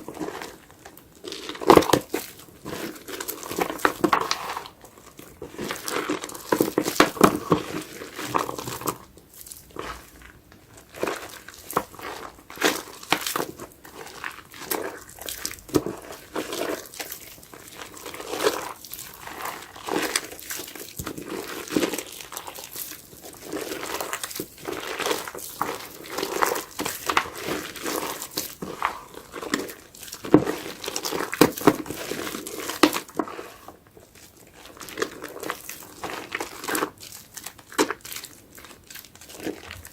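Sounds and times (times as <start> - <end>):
soapy sponge squishing: 0.0 - 39.9.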